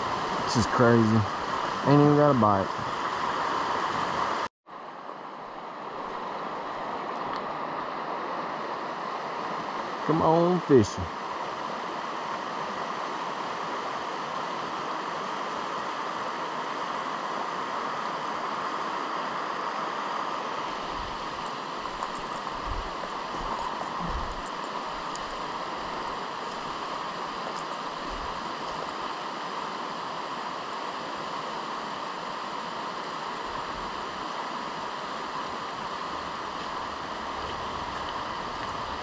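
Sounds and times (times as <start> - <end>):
stream rushing over rocks: 0.0 - 4.5, 5.8 - 39.0.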